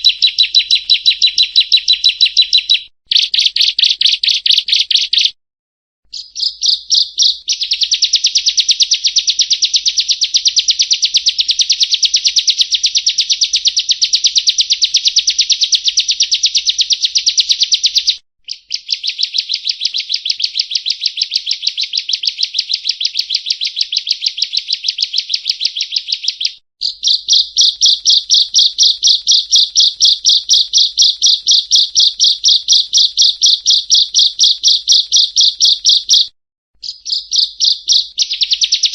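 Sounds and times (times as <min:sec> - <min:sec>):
bird singing rapid trill: 0:00.0 - 0:05.4, 0:06.1 - 0:38.9.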